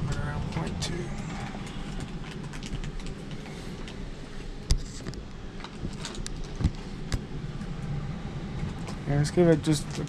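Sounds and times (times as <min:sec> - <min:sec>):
heating system humming: 0:00.0 - 0:10.0.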